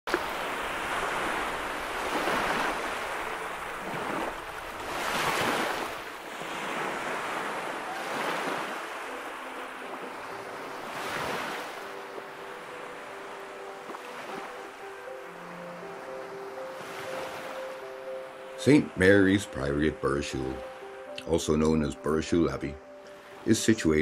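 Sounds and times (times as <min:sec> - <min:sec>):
sea waves washing: 0:00.1 - 0:24.0.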